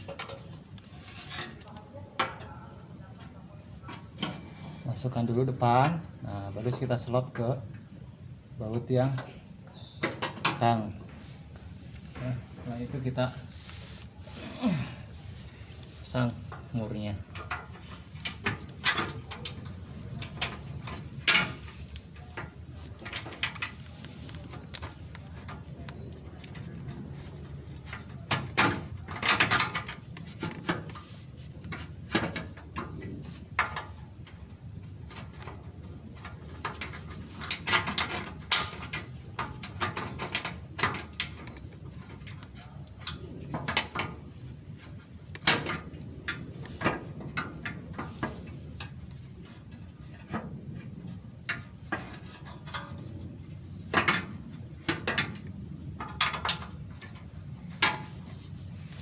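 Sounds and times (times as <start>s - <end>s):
tools and nuts clinking on metal: 0.0s - 2.6s, 8.6s - 11.2s, 14.6s - 58.5s.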